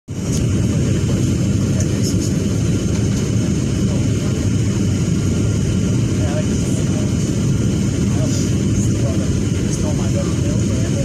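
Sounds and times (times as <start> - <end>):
jet engines rumbling in cabin: 0.1 - 11.0.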